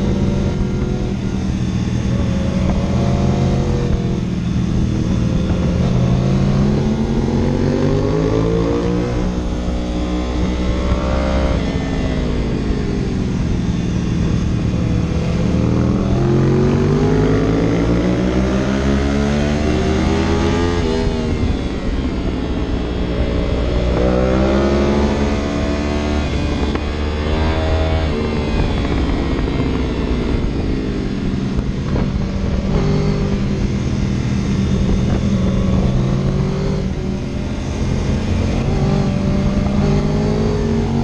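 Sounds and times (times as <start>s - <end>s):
steady low drone: 0.0s - 41.0s
vehicle engine revving: 0.0s - 41.0s.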